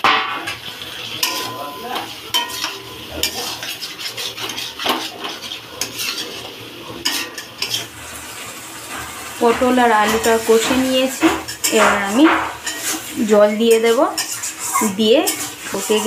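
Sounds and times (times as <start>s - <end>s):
frying sizzle: 0.0s - 16.0s
metal spatula scraping pan: 0.0s - 16.0s.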